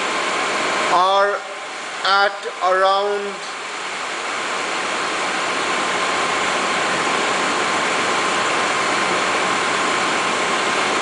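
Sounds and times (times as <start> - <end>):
exhaust fans rushing: 0.0 - 11.0.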